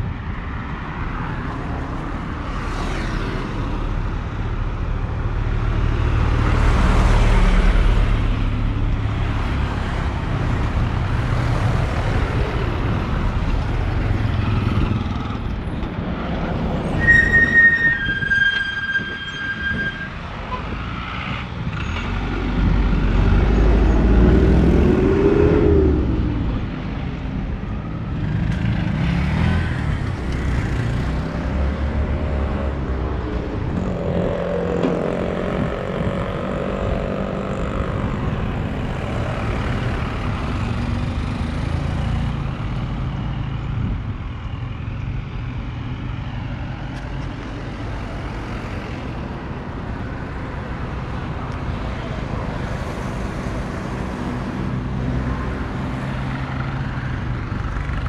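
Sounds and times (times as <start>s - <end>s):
traffic hum: 0.0s - 19.1s, 20.1s - 58.0s
trucks and cars passing: 0.0s - 58.0s.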